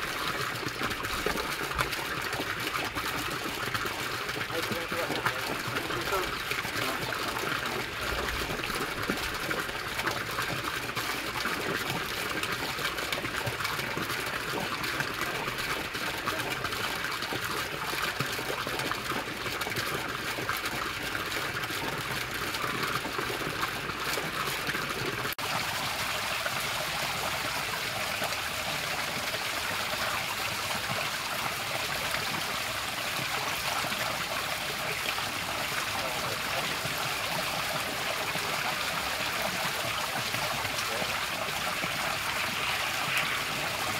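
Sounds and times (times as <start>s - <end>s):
fountain pouring into pool: 0.0s - 43.9s
fountain water splashing: 0.0s - 43.9s.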